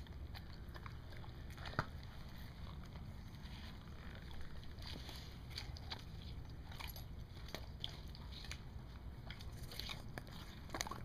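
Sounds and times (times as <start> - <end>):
dog crunching watermelon: 0.0 - 11.0
low background rumble: 0.0 - 11.0.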